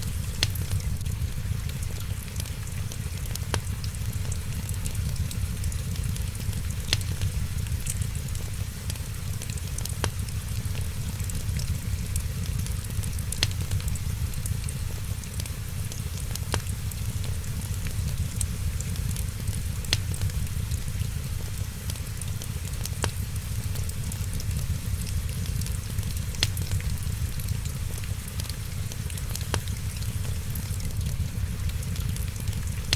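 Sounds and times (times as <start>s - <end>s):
fire popping: 0.0s - 32.9s
low rumble and hiss: 0.0s - 32.9s
wood fire crackling: 0.0s - 32.9s.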